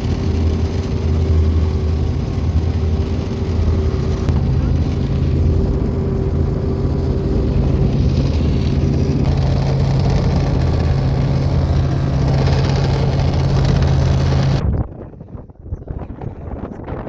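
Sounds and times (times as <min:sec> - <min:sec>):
helicopter engine and rotors: 0:00.0 - 0:14.7.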